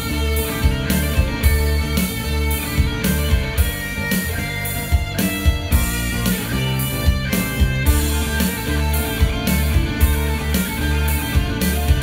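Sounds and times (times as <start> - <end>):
bass line: 0.0 - 12.0
drum kit steady beat: 0.0 - 12.0.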